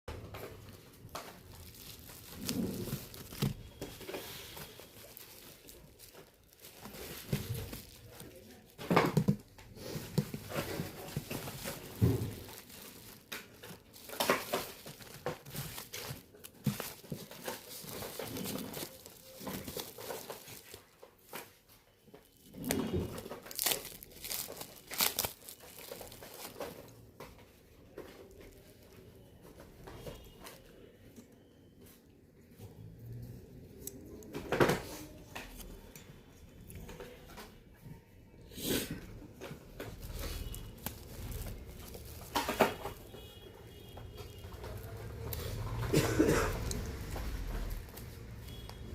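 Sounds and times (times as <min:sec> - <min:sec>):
crinkling and tearing: 0:00.1 - 0:30.7, 0:33.1 - 0:48.9.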